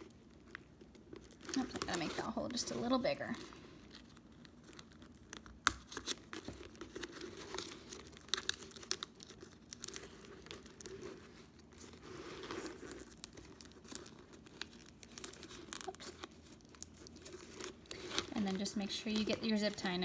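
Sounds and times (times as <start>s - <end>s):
vent duct crinkling: 0.0s - 20.0s.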